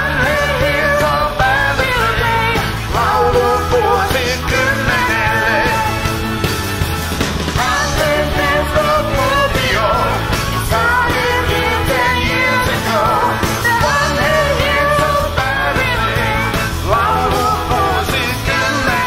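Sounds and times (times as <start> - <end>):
person singing: 0.0 - 6.1, 7.6 - 19.0
rock band playing: 0.0 - 19.0.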